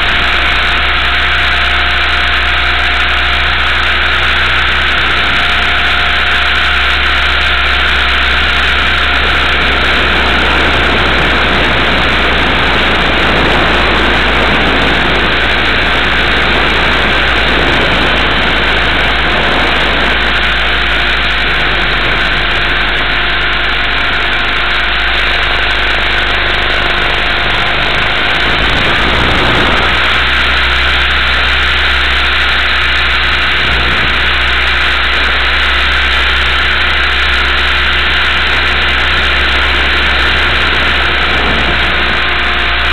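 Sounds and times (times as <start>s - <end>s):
helicopter motor and rotor whir: 0.0s - 42.9s
low hum: 0.0s - 42.9s.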